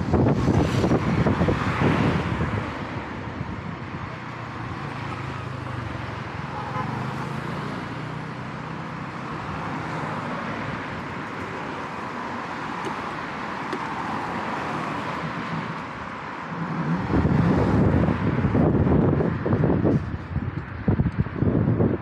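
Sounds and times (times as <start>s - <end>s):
wind rumble on microphone: 0.0s - 7.0s, 9.1s - 22.0s
cars driving past: 0.0s - 22.0s.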